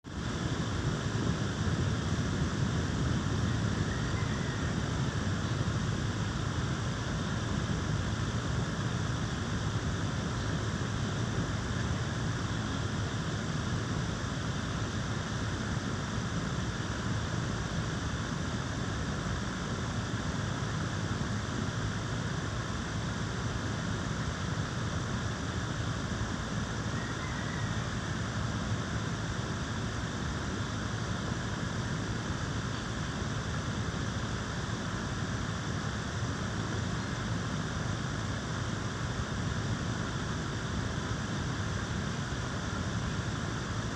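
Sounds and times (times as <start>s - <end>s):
steady low noise: 0.0s - 43.9s.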